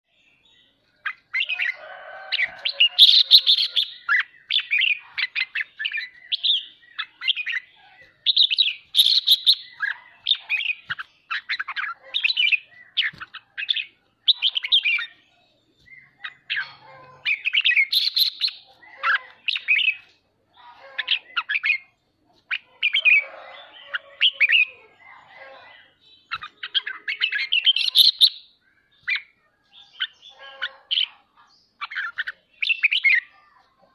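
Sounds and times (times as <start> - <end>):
bird chattering and singing: 0.1 - 33.9.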